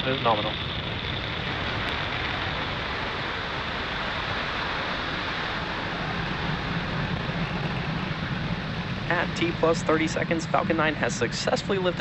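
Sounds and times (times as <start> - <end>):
rocket engines rumbling: 0.0 - 12.0.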